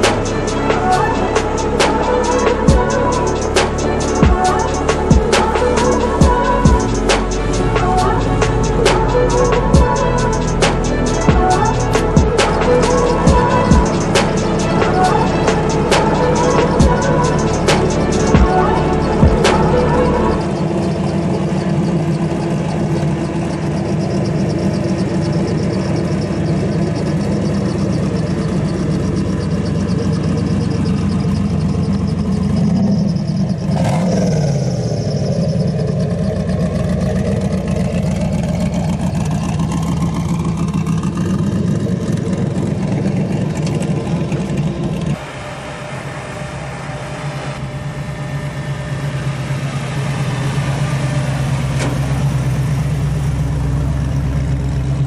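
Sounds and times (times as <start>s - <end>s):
car engines idling: 0.0s - 55.0s.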